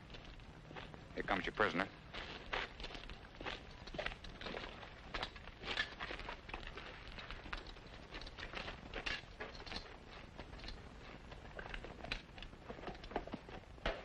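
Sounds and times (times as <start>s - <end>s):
footsteps on dirt: 0.0s - 14.0s
horse hooves shuffling on dirt: 0.0s - 14.0s.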